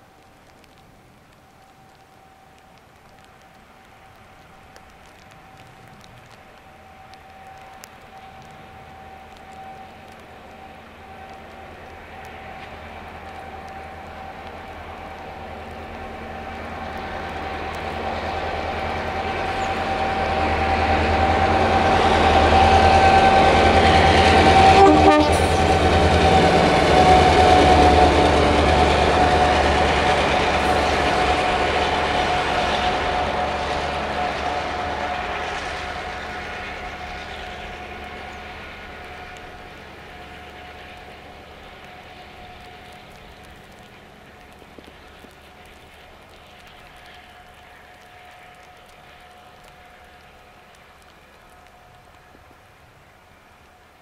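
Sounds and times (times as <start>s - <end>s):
diesel locomotive passing: 0.0s - 54.0s.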